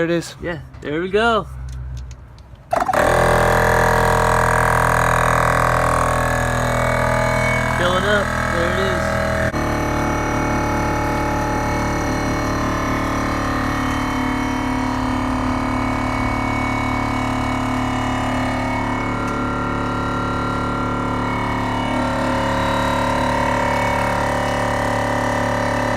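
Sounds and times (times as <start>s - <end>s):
air compressor running: 2.6s - 25.9s.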